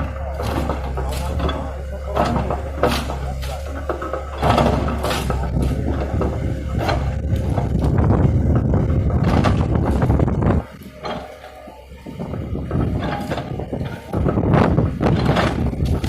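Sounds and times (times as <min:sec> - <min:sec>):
excavator diesel engine working: 0:00.0 - 0:16.0.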